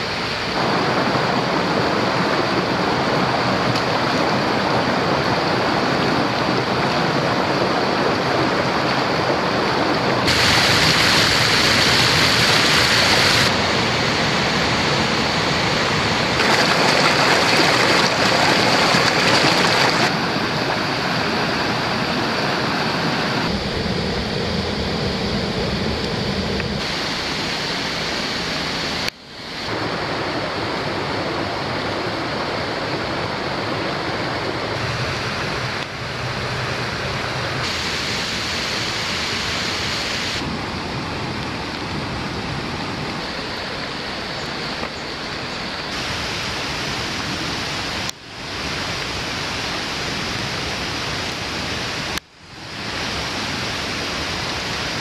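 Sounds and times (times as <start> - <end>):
creek water rushing: 0.0 - 24.2, 25.0 - 55.0.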